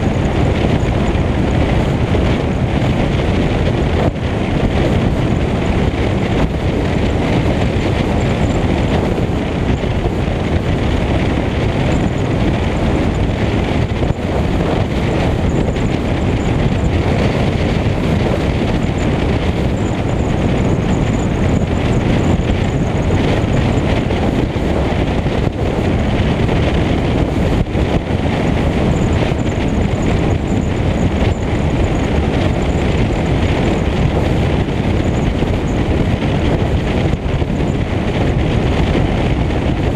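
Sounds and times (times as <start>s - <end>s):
tyres rumbling on road: 0.0s - 39.9s
wind rushing on microphone: 0.0s - 39.9s.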